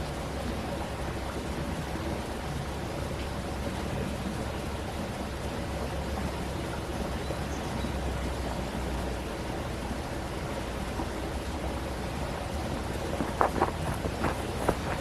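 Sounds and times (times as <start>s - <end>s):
flowing stream: 0.0s - 15.0s.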